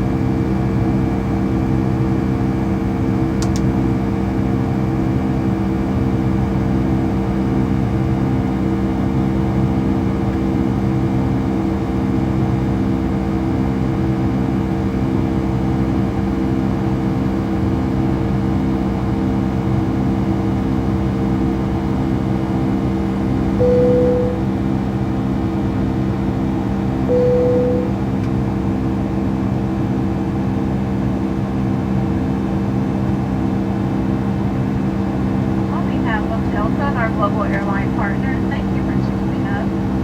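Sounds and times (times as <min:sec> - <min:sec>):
airplane cabin engine drone: 0:00.0 - 0:40.0.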